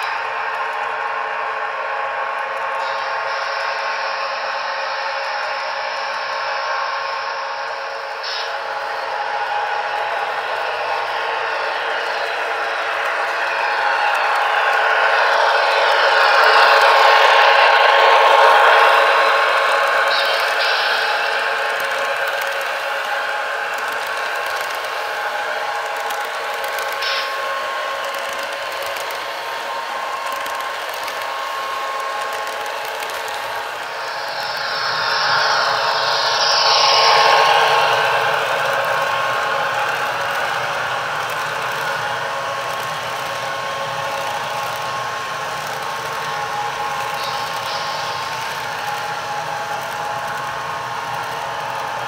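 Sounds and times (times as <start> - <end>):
steady hum: 0.0 - 52.0
model train wheels clattering on rails: 2.3 - 52.0.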